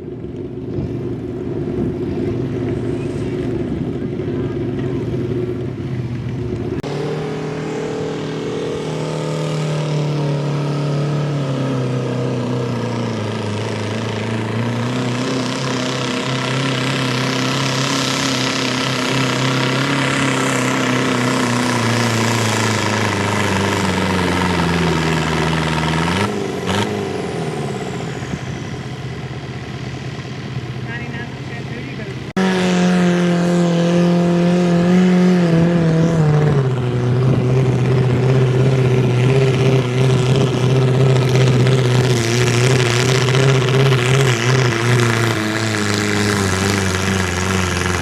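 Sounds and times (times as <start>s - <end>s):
tractor engine running hard: 0.0s - 48.0s.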